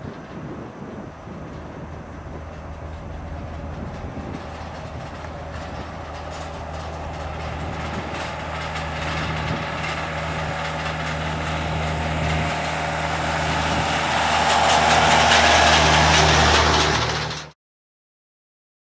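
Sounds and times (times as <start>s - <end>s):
low hum: 0.0s - 17.5s
jet engine roar at takeoff: 0.0s - 17.6s.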